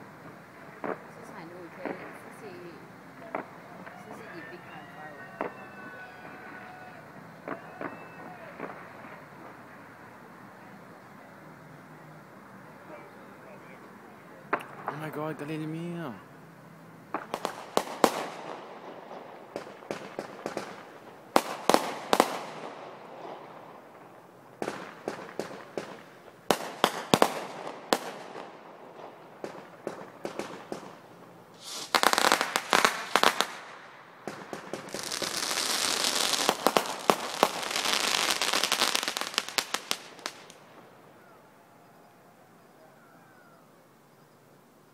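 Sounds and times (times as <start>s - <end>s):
fireworks bangs and crackling: 0.0s - 41.5s
fireworks hissing rush: 0.0s - 41.6s.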